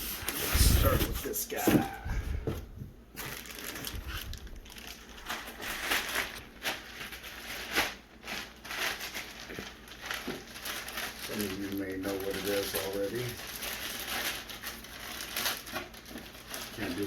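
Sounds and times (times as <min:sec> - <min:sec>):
packaging crinkling: 0:03.1 - 0:17.0.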